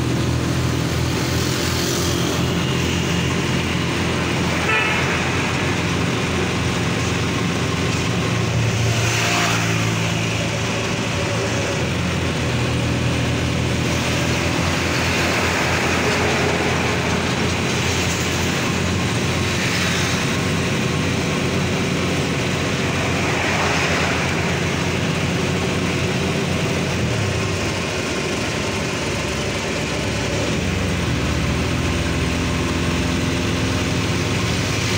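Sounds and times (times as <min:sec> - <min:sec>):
vehicle engine humming: 0:00.0 - 0:34.9
vehicles passing by: 0:00.0 - 0:34.9.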